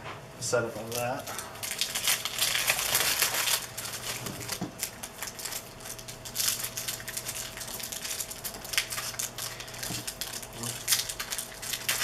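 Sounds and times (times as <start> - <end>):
faint electrical hum: 0.0 - 12.0
foil wrappers crinkling: 0.6 - 12.0.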